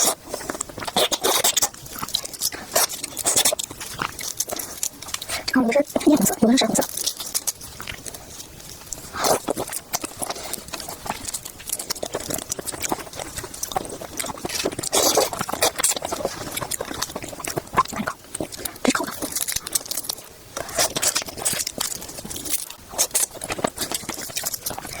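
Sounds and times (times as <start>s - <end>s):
chewing crisp food: 0.0s - 25.0s
crunchy bites: 0.0s - 25.0s.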